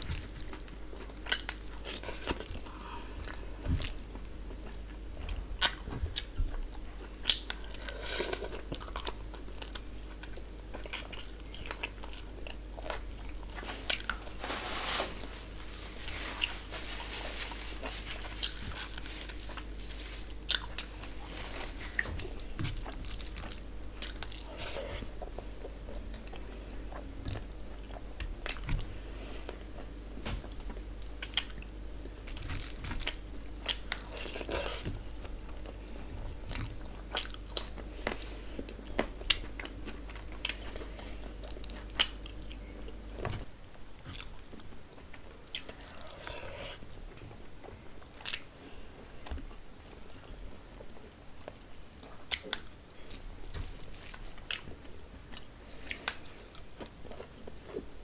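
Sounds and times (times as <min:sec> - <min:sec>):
person chewing food: 0:00.0 - 0:14.4, 0:15.4 - 0:58.0.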